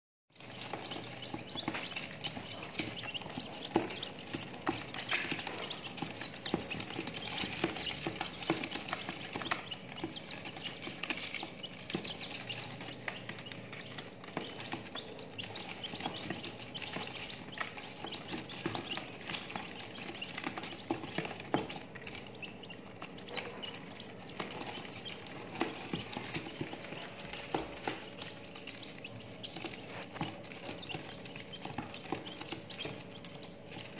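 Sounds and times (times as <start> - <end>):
chicks pecking at feed: 0.3 - 33.9
chicks peeping: 0.3 - 33.9.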